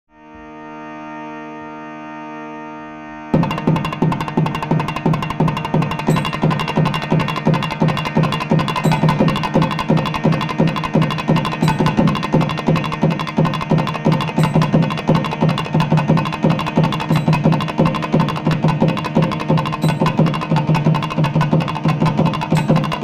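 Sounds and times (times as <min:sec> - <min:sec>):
steady drone: 0:00.2 - 0:23.0
drums beating fast rhythm: 0:03.4 - 0:23.0.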